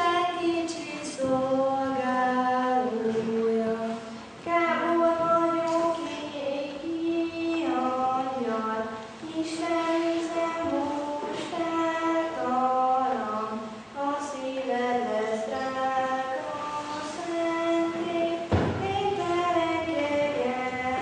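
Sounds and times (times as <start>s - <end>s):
choir of girls and women singing: 0.0s - 21.0s.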